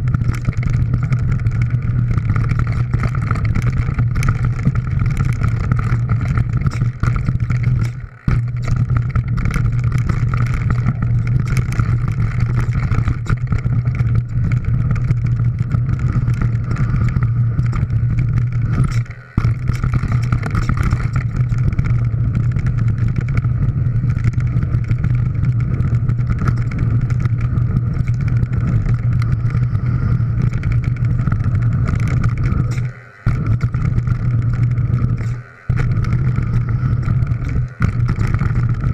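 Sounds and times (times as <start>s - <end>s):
bike tyres rattling on stones: 0.0s - 38.9s
wind rumble: 0.0s - 38.9s.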